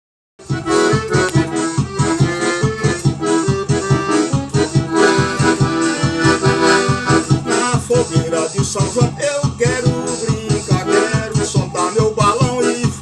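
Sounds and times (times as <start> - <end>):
accordion melody with pulsing bass: 0.4 - 13.0.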